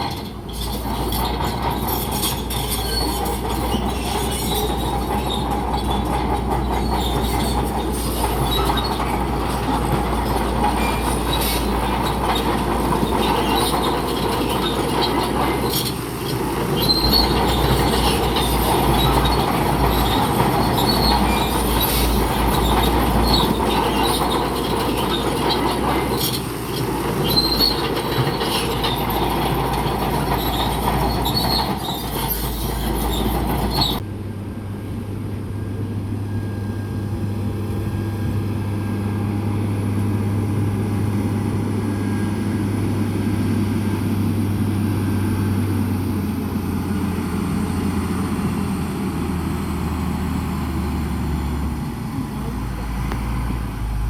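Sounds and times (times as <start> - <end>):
steel tracks clanking and squealing: 0.0 - 34.0, 35.7 - 54.0
diesel engine under load: 0.0 - 54.0.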